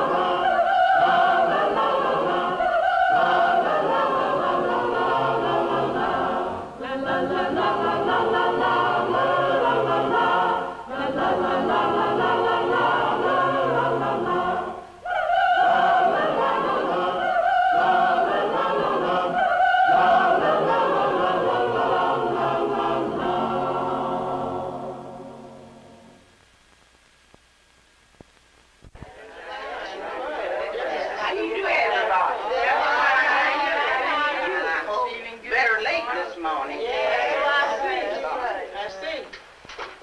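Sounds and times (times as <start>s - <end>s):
choir singing a slow song: 0.0s - 26.3s, 29.0s - 35.0s, 36.2s - 38.5s.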